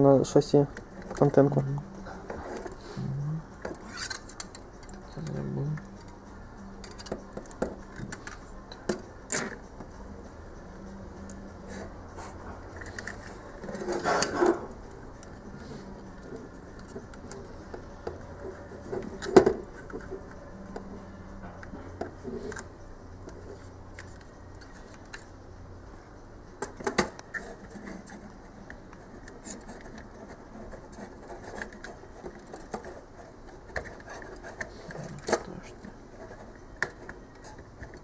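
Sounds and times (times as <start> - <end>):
plastic parts clicking and rubbing: 0.6 - 2.8, 3.6 - 6.2, 6.8 - 9.7, 12.7 - 25.3, 26.6 - 38.0.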